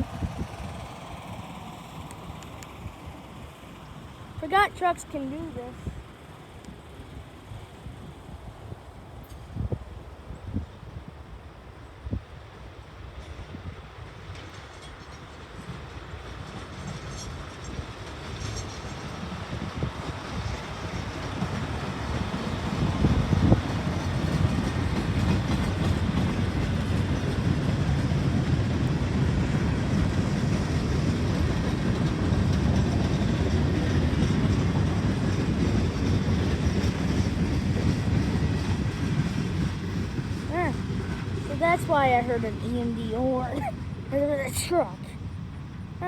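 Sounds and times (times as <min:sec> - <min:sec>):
train rumbling past: 0:00.0 - 0:46.0.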